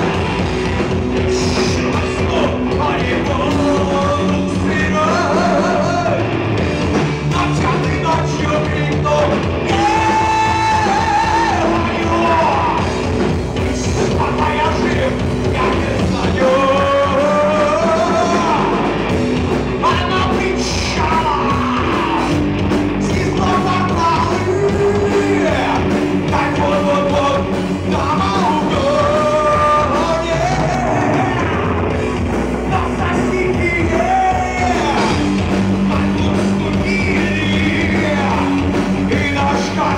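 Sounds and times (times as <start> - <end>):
live rock band playing: 0.0 - 39.9
male singing: 1.3 - 6.3, 7.3 - 12.9, 13.8 - 18.9, 19.8 - 22.4, 23.0 - 31.8, 32.6 - 39.9.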